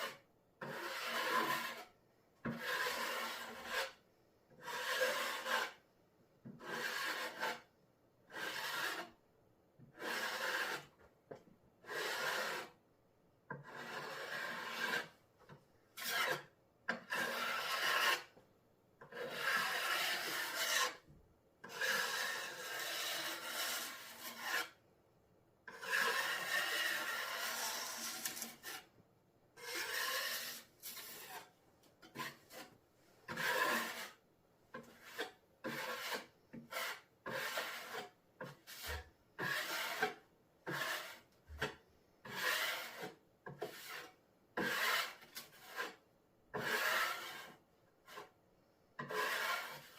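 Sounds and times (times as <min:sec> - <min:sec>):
blade scraping wet cement: 0:00.0 - 0:05.8, 0:06.6 - 0:07.7, 0:08.3 - 0:09.2, 0:09.9 - 0:11.0, 0:11.8 - 0:12.8, 0:13.5 - 0:18.4, 0:19.0 - 0:24.8, 0:25.7 - 0:28.9, 0:29.6 - 0:48.4, 0:49.0 - 0:49.9.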